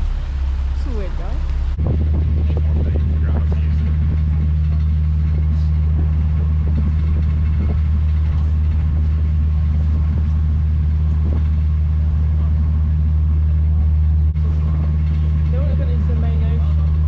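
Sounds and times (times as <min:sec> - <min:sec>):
boat engines droning: 0:00.0 - 0:17.0.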